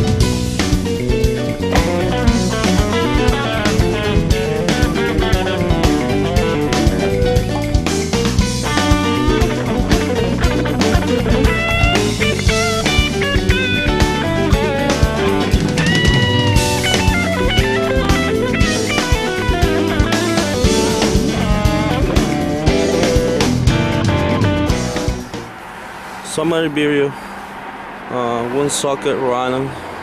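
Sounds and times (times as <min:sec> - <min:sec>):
electric guitar: 0:00.0 - 0:25.6
rock drum kit beat: 0:00.0 - 0:25.6.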